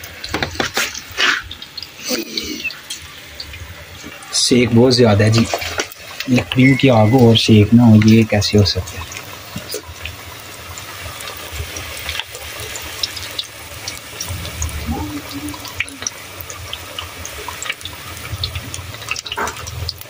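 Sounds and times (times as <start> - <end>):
food deep-frying in hot oil: 0.0 - 20.0.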